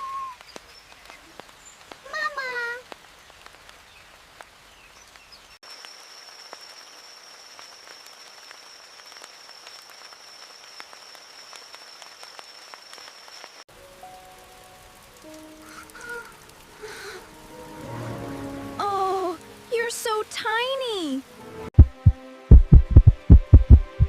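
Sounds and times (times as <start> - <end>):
rain pattering: 0.0 - 21.4
water drips: 0.1 - 20.8.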